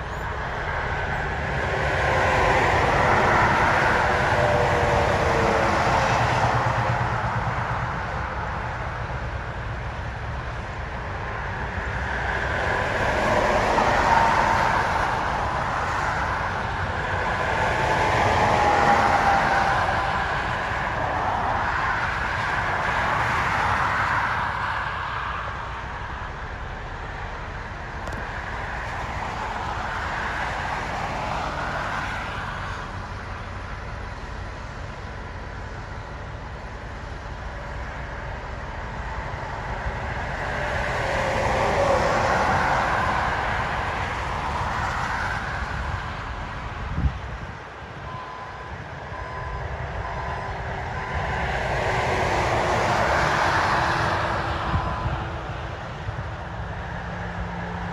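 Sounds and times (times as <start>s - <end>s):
falling vehicle whine: 0.0s - 57.9s
highway traffic passing: 0.0s - 57.9s.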